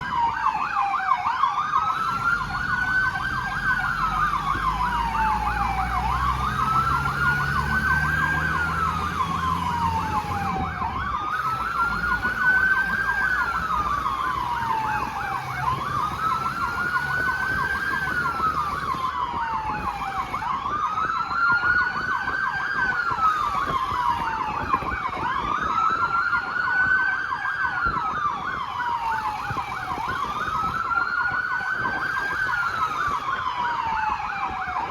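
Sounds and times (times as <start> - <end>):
siren wailing and yelping: 0.0 - 34.9.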